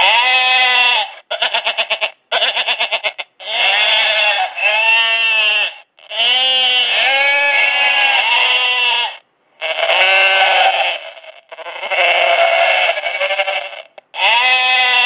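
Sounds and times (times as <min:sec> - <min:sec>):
horn playing animal bleat: 0:00.0 - 0:15.0.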